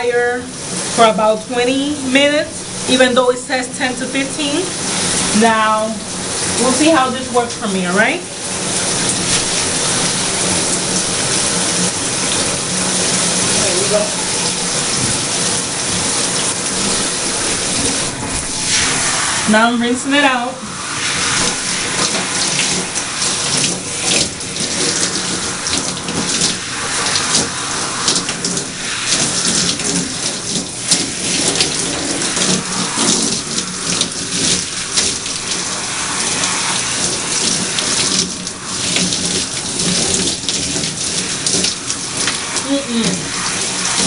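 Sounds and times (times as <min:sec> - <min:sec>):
tap water splashing on hair: 0:03.7 - 0:19.5, 0:20.7 - 0:44.0.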